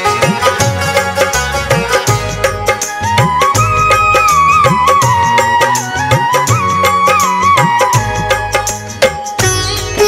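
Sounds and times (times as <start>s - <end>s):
gliding instrumental melody: 0.0s - 10.0s
percussion beat and bass: 0.0s - 10.0s.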